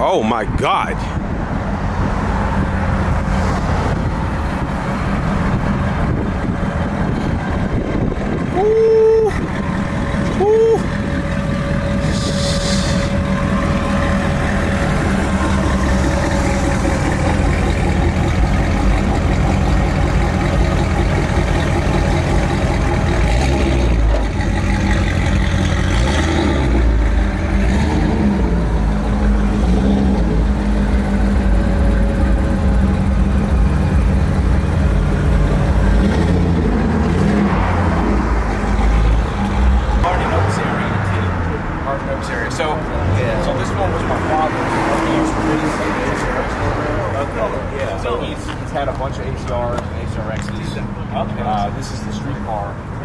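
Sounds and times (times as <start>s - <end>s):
car engine revving: 9.4s - 53.0s.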